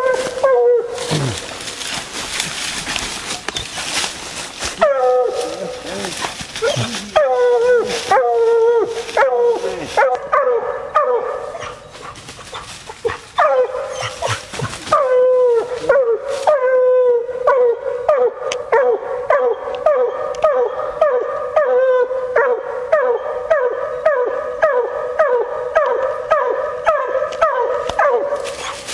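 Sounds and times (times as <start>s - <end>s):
hound barking: 0.0s - 1.4s, 4.7s - 28.9s.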